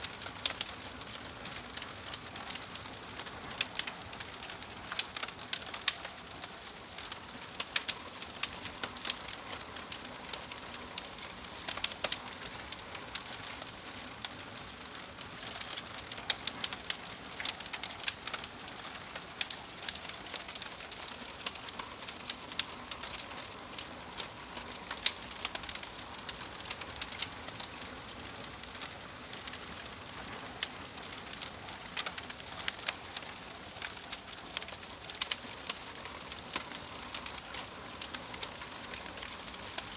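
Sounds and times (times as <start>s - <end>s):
crackling fire: 0.0s - 39.9s.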